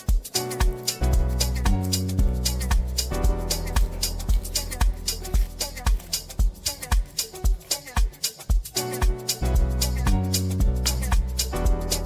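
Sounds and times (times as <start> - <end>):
upbeat afrobeat music: 0.0 - 12.0.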